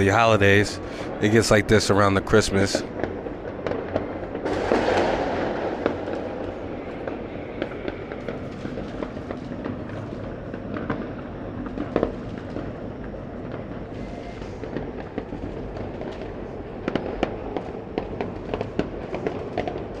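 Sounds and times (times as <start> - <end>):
distant fireworks bangs and crackle: 0.0 - 20.0
loud firecracker pops: 2.7 - 20.0
sharp firework bang: 2.7 - 20.0.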